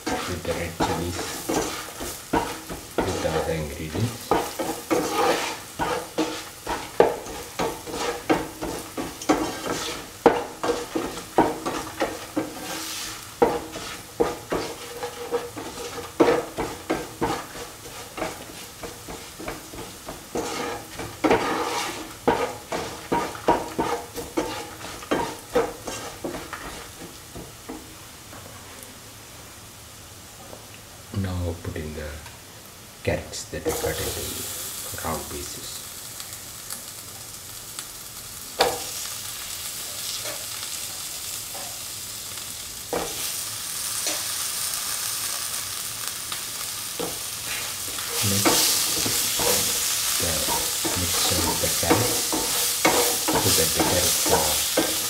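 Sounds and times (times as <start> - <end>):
spatula scraping a pan: 0.0 - 27.8, 33.6 - 34.7, 38.6 - 41.9, 42.9 - 55.0
oil sizzling: 0.0 - 55.0.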